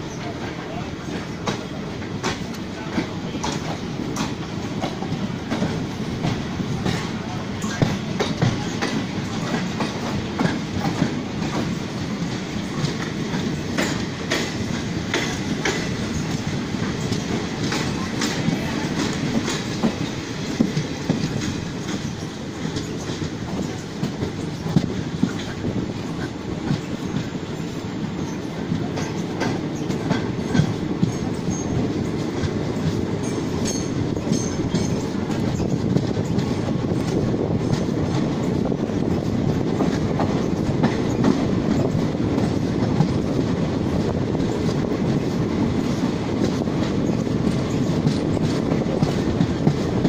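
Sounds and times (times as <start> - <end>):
train rumbling: 0.0 - 50.0
wheels clacking over rail joints: 0.1 - 50.0.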